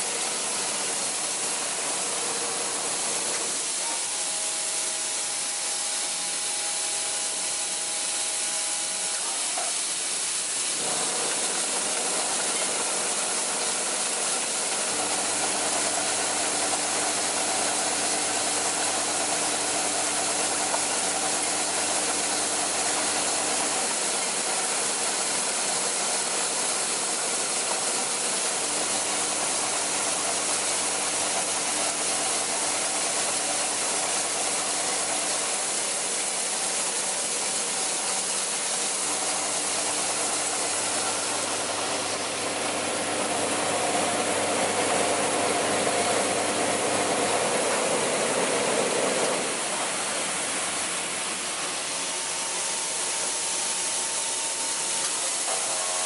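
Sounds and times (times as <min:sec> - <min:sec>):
machine running with steady hiss: 0:00.0 - 0:56.0.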